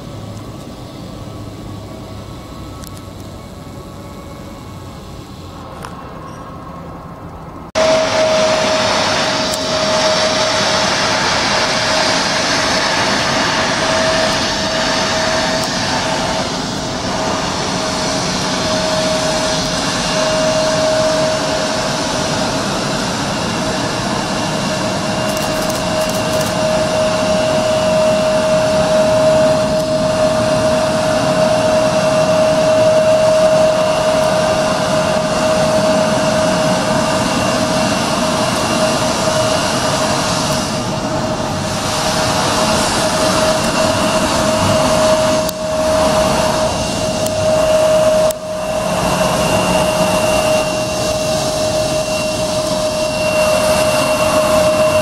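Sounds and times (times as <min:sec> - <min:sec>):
jet engines whining and roaring: 0:00.0 - 0:55.0.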